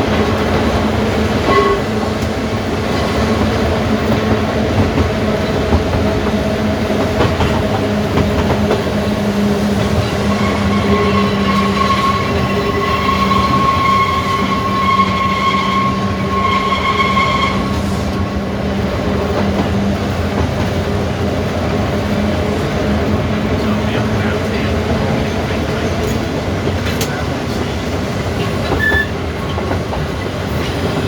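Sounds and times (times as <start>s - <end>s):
electric tram running on track: 0.0s - 31.0s.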